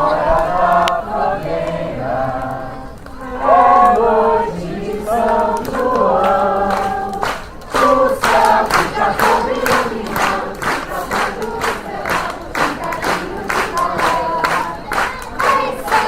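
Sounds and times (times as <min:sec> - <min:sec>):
group of people singing: 0:00.0 - 0:16.0
rhythmic hand clapping: 0:00.0 - 0:16.0.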